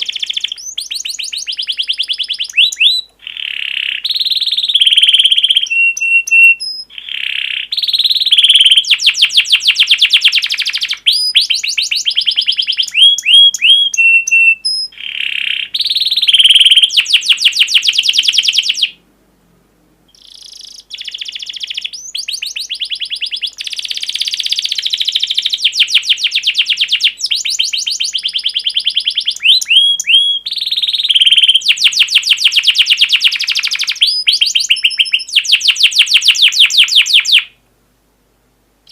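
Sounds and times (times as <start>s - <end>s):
recorded songbird song: 0.0s - 19.2s, 19.9s - 37.8s.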